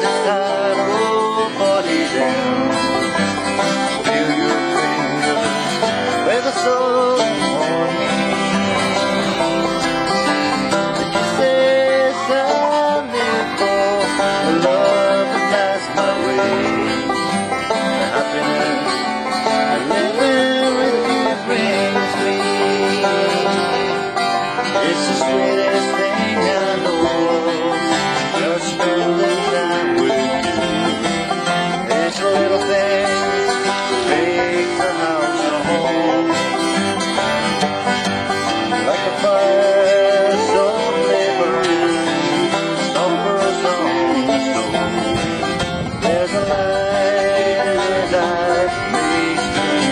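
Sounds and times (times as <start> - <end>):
acoustic folk music on plucked strings: 0.0 - 49.9.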